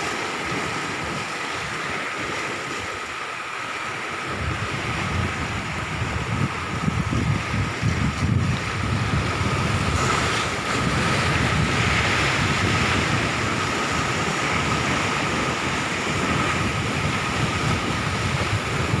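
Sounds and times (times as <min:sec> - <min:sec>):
sea waves washing onto shore: 0:00.0 - 0:19.0
wind gusting on microphone: 0:00.0 - 0:19.0.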